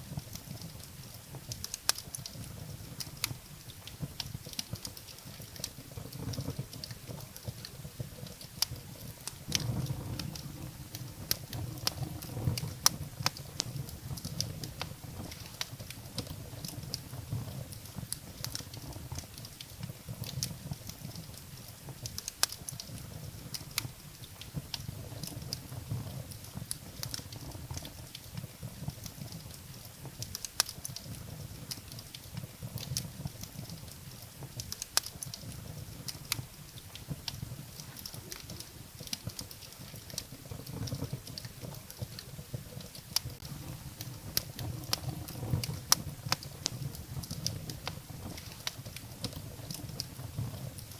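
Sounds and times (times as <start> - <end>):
firewood crackling and popping: 0.0 - 50.9
low rumble of flames: 0.0 - 50.9.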